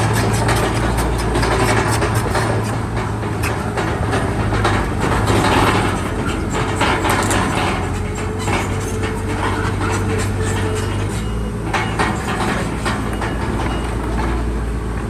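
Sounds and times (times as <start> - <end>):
bulldozer diesel engine: 0.0 - 15.0
crawler tracks clanking: 0.0 - 15.0.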